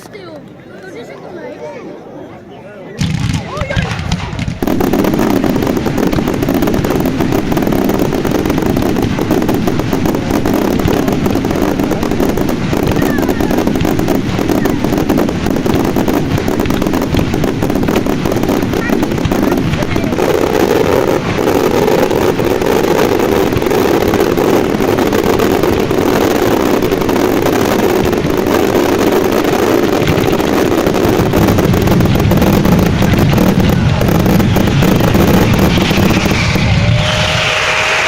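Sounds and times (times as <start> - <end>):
fireworks barrage rumbling: 3.0 - 38.0
firework whistle: 3.9 - 38.0.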